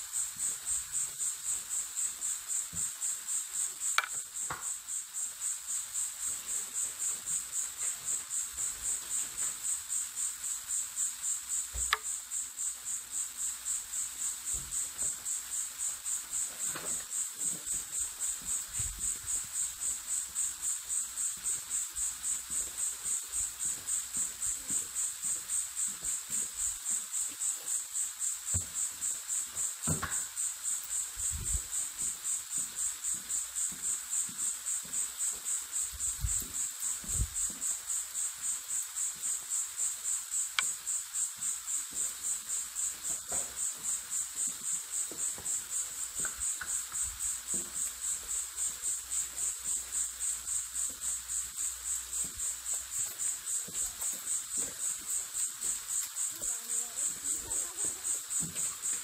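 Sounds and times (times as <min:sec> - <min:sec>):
pulsing insect chirping: 0:00.0 - 0:59.0.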